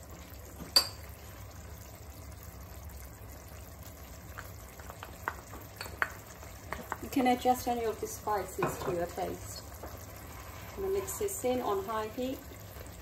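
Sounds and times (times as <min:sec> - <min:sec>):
onions bubbling in a frying pan: 0:00.0 - 0:13.0.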